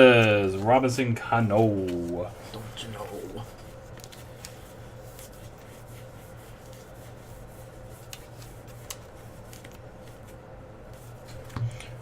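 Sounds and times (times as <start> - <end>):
low background hum: 0.0 - 12.0
trading cards rubbing together: 1.4 - 11.5.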